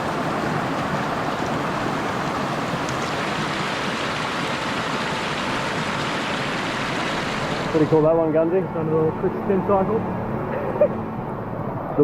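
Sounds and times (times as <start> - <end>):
creek running over rocks: 0.0 - 10.0.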